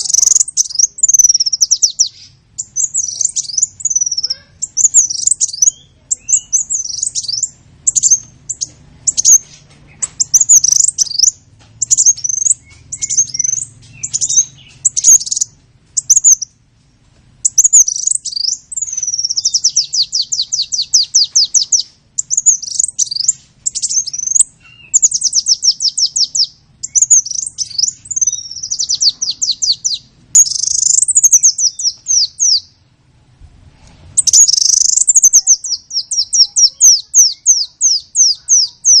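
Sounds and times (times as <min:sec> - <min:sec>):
songbird singing: 0:00.0 - 0:33.4, 0:34.1 - 0:39.0.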